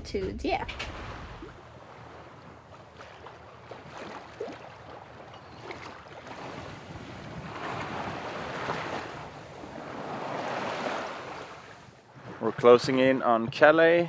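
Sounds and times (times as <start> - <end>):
water splashing along boat hull: 0.7 - 14.0.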